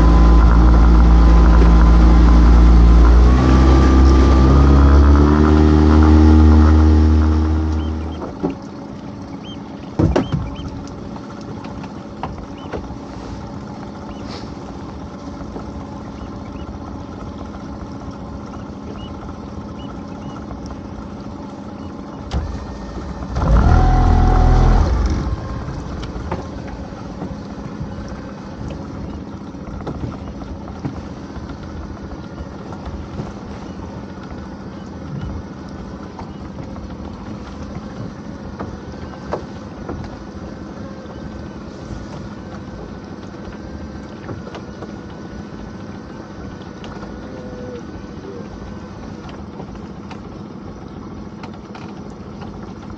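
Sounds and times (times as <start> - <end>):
boat engine idling: 0.0 - 52.9.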